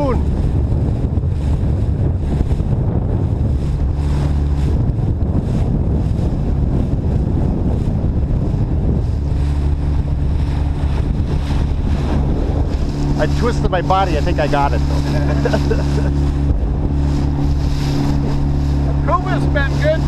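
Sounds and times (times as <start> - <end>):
outboard motor running: 0.0 - 20.0
water rushing along hull: 0.0 - 20.0
wind buffeting microphone: 0.0 - 20.0.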